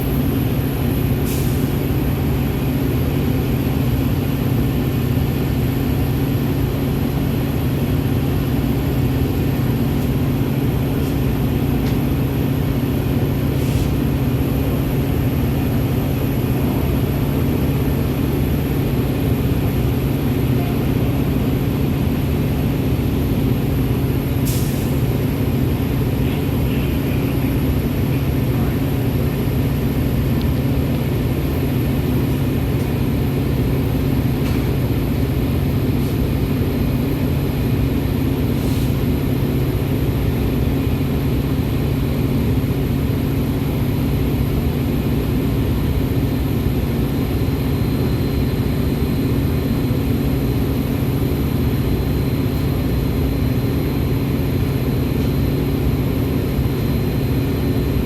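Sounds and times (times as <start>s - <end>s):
train low mechanical hum: 0.0s - 58.0s.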